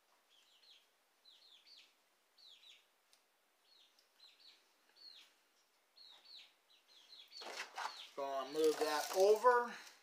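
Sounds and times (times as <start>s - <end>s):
faint bird chirping: 0.0s - 9.8s.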